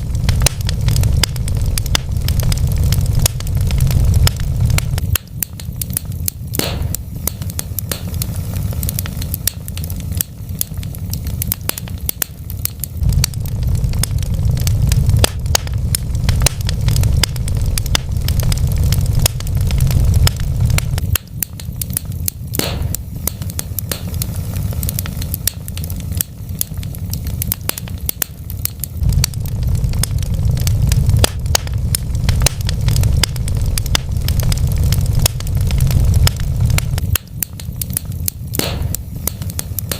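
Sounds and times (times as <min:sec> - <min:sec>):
steady low rumble: 0:00.0 - 0:39.9
wood fire crackling and popping: 0:00.0 - 0:39.9.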